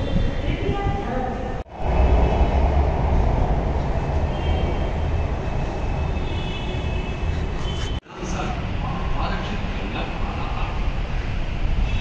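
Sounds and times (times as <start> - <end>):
train rumbling: 0.0 - 10.7.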